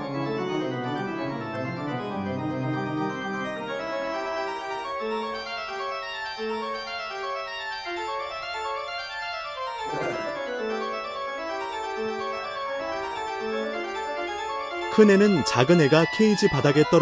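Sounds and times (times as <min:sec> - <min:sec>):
sustained keyboard chords: 0:00.0 - 0:17.0.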